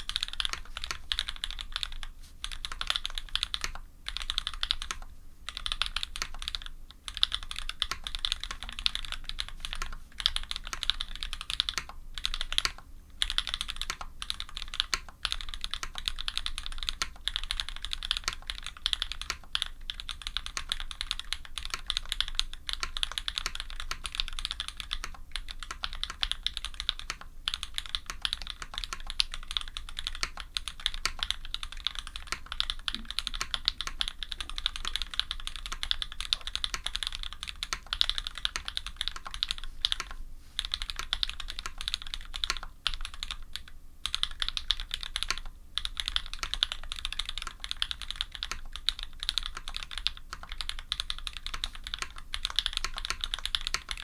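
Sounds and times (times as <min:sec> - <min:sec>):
mechanical keyboard typing: 0:00.0 - 0:54.0.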